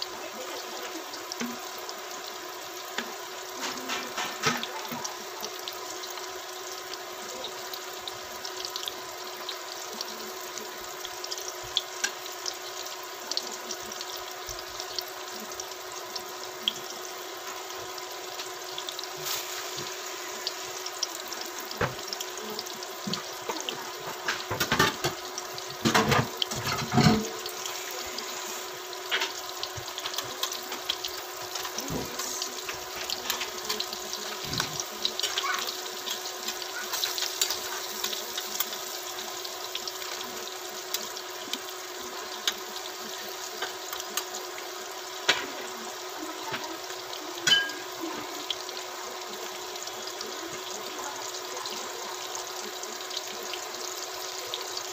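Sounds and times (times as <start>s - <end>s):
food sizzling in frying oil: 0.0s - 54.9s.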